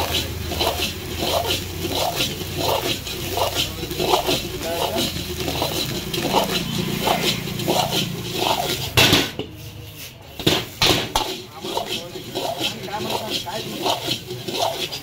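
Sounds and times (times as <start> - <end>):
steel ladle scraping wok: 0.0 - 15.0
wok clanking: 0.0 - 15.0.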